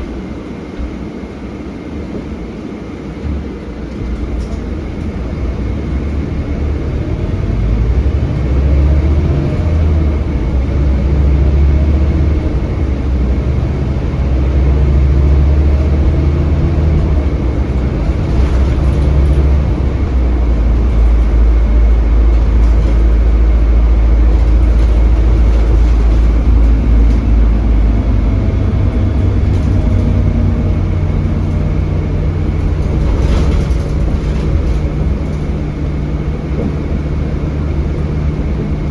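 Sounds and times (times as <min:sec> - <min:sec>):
bus engine drone: 0:00.0 - 0:38.9
road noise: 0:00.0 - 0:38.9.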